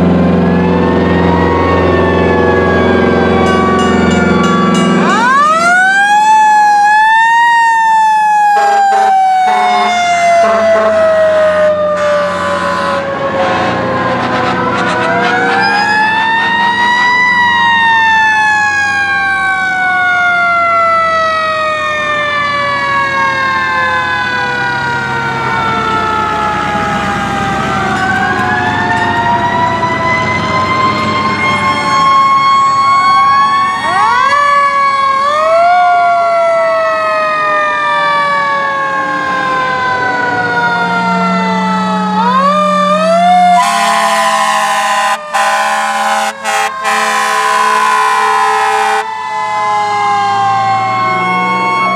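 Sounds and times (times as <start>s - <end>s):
fire engine sirens wailing: 0.0s - 51.9s
held siren tones: 0.0s - 51.9s.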